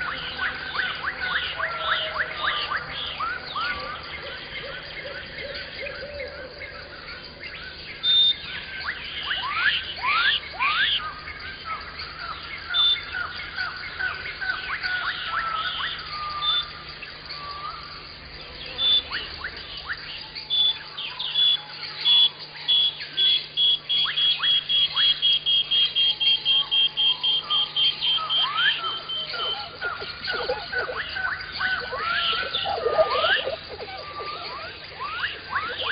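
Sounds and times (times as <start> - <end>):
songbirds singing and chirping: 0.0 - 35.9.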